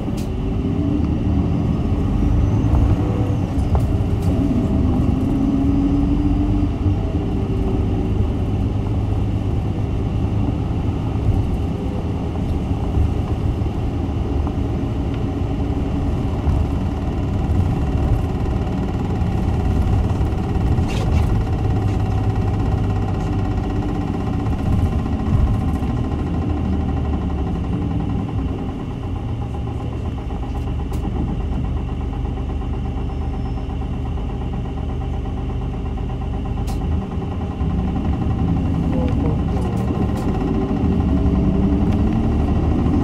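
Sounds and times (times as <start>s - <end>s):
road noise: 0.0s - 32.0s, 36.3s - 43.0s
bus diesel engine droning: 0.0s - 43.0s.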